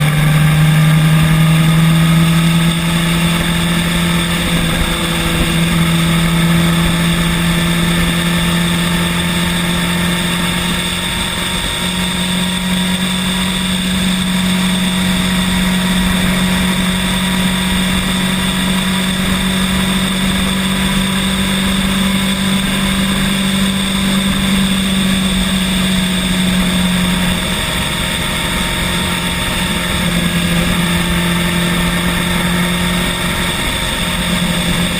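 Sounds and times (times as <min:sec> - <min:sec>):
electric scooter motor hum: 0:00.0 - 0:34.9
rushing noise: 0:00.0 - 0:34.9.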